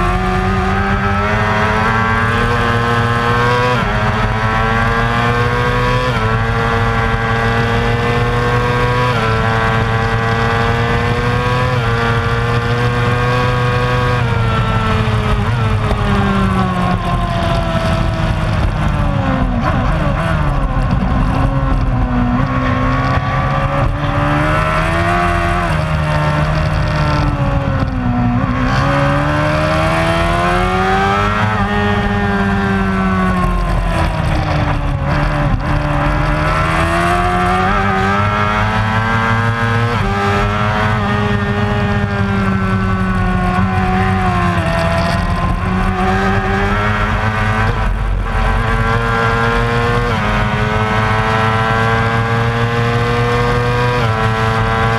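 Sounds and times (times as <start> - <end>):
racing motorcycle engine revving: 0.0 - 54.9.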